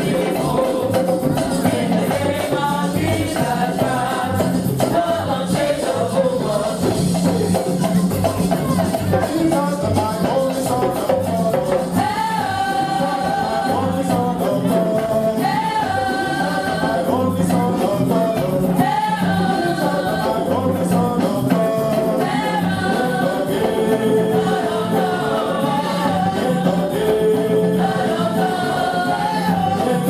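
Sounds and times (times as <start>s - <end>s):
choir singing gospel song: 0.0s - 7.6s, 9.4s - 30.0s
shakers: 0.0s - 30.0s
steady percussion: 0.0s - 30.0s.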